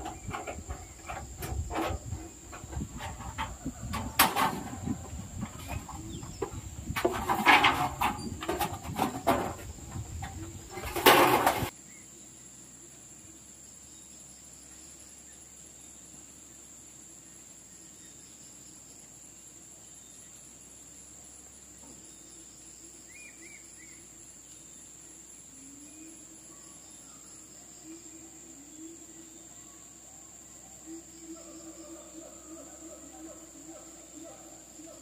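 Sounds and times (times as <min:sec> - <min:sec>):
crickets droning: 0:00.0 - 0:35.0.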